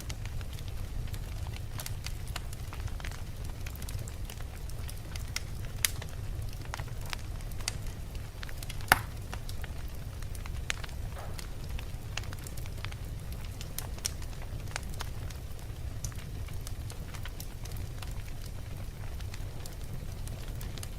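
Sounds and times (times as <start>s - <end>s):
fire crackling and popping: 0.0s - 20.9s
low fire rumble: 0.0s - 20.9s.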